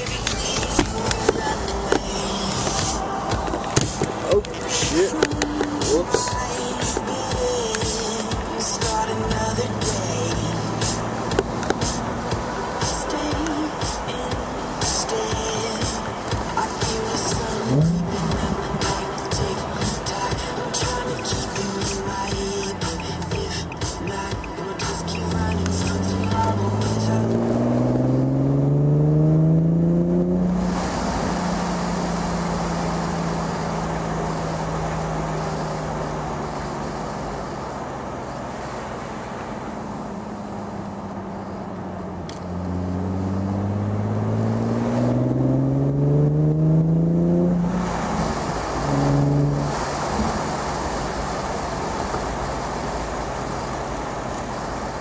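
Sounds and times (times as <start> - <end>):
car engine and exhaust revving: 0.0 - 55.0
road and tyre noise: 0.0 - 55.0.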